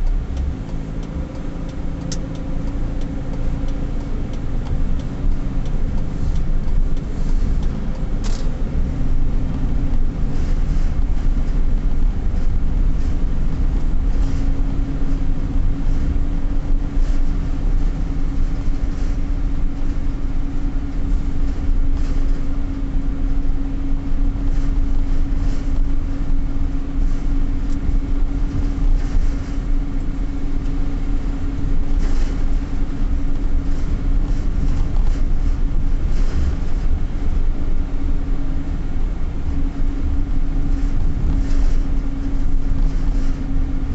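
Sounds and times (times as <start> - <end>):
steady hum: 0.0 - 43.9
tyre and engine rumble: 0.0 - 43.9.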